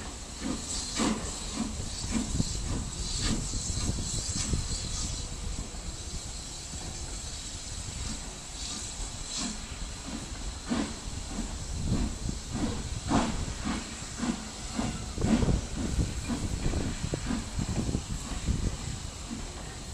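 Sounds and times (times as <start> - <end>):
steam train hissing and chuffing: 0.0 - 19.9.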